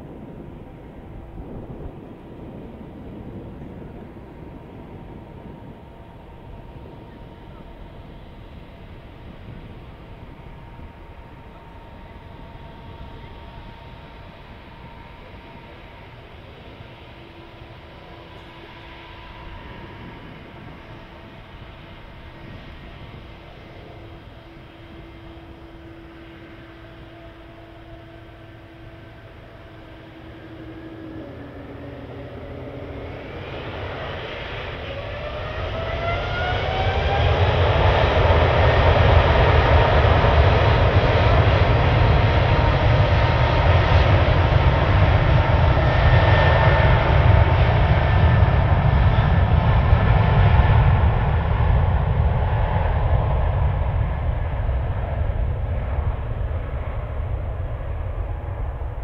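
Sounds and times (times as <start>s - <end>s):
jet engine roar: 0.0s - 59.0s
jet engines spooling up: 0.0s - 59.0s.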